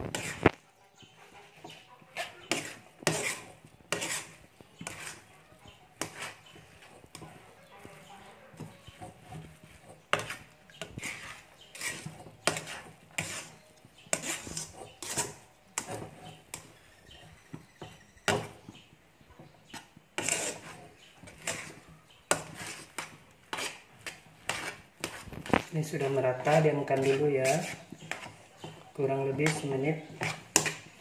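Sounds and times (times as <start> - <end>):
spatula scraping a wok: 0.0 - 31.0.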